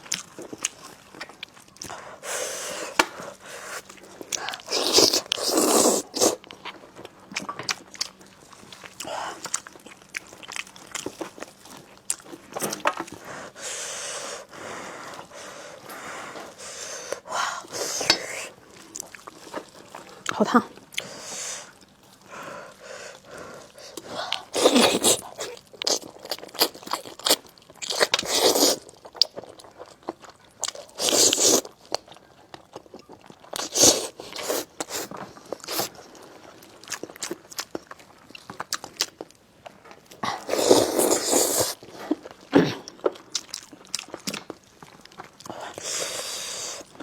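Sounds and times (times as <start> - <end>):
person chewing food: 0.0 - 47.0.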